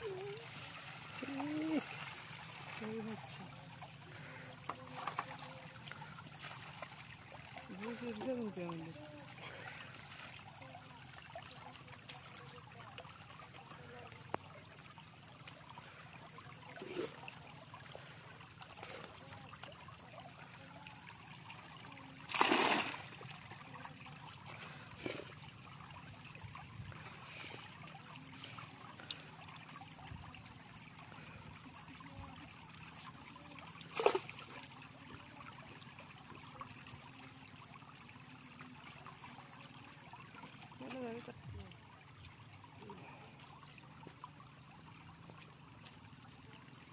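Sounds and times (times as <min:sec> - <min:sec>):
shallow water trickling and lapping: 0:00.0 - 0:46.9
short water splashes: 0:00.0 - 0:46.9.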